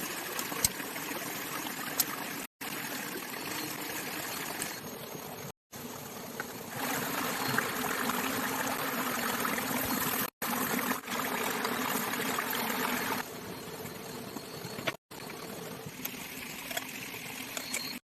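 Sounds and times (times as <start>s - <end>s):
falling and trickling water: 0.0s - 5.5s, 6.4s - 13.2s, 15.1s - 18.0s.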